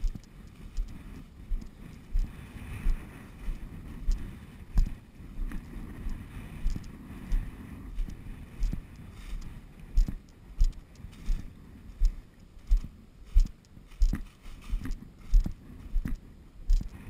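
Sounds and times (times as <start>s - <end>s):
footsteps in a field: 0.0s - 17.0s
wind rumble on microphone: 0.0s - 17.0s.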